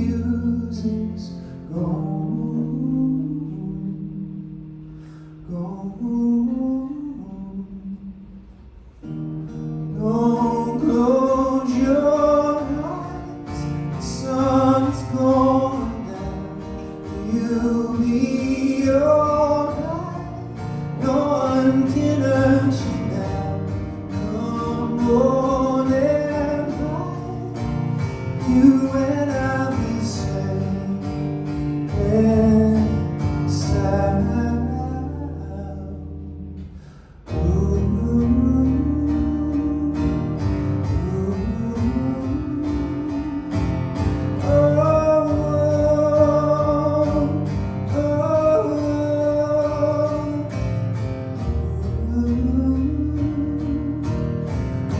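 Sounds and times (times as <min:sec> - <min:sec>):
man singing: 0:00.0 - 0:08.4, 0:09.6 - 0:36.7, 0:37.3 - 0:54.9
acoustic guitar strumming: 0:00.0 - 0:54.9.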